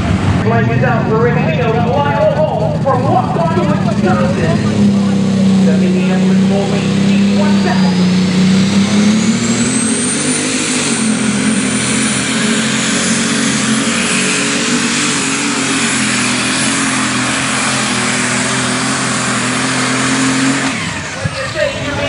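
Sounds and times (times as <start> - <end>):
tractor engine running hard: 0.0 - 22.0
turbo whine: 0.0 - 22.0.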